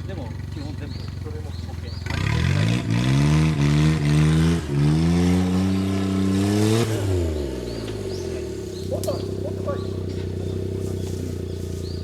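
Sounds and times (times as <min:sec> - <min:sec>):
car engine revving hard: 0:02.0 - 0:12.0.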